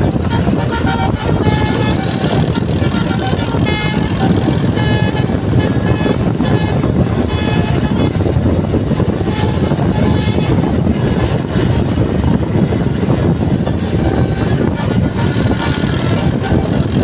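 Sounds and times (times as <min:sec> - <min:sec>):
faint multi-tone horn: 0:00.0 - 0:08.4, 0:09.0 - 0:11.7, 0:13.6 - 0:17.0
bus engine and road noise: 0:00.0 - 0:17.0.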